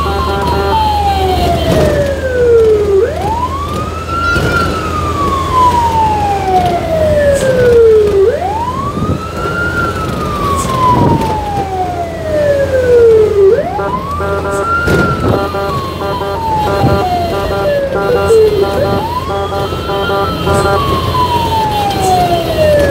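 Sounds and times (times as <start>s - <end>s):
engine and road hum: 0.0s - 22.9s
fire truck siren wailing: 0.0s - 22.9s.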